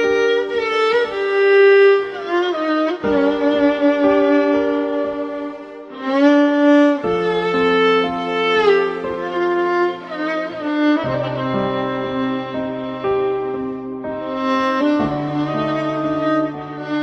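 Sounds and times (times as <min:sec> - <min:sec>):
slow music of long held notes: 0:00.0 - 0:17.0.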